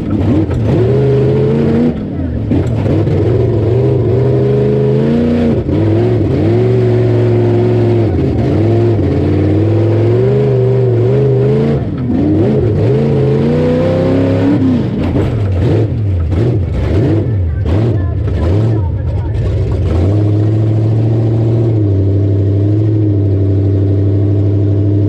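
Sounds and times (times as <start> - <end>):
truck engine revving hard: 0.0 - 25.0.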